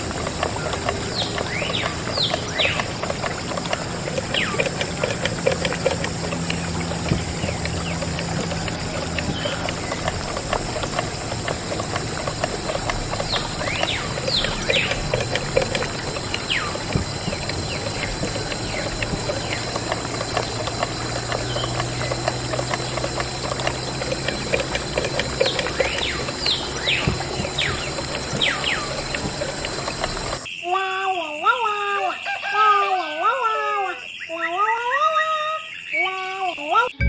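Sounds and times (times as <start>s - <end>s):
pattering and clicking background: 0.0s - 30.5s
birds chirping: 0.0s - 30.7s.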